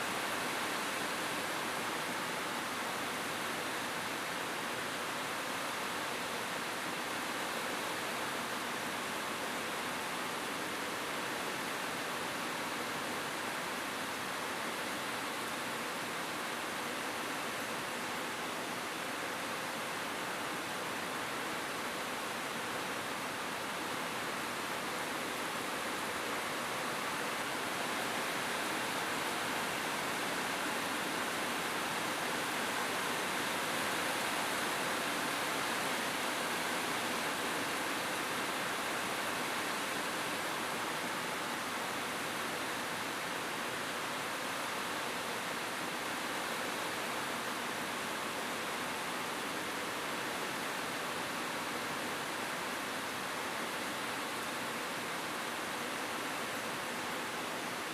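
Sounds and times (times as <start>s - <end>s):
rain falling on a roof: 0.0s - 57.9s.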